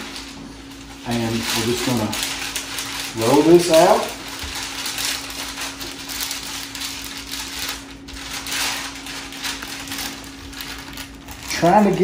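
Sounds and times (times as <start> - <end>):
rolling pin over crinkling paper: 0.0 - 12.0.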